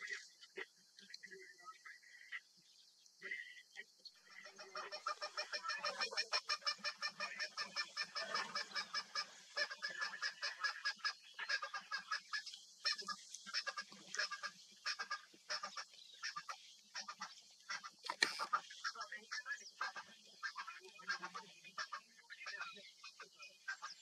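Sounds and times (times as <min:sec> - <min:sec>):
birds honking calls: 0:04.2 - 0:24.0.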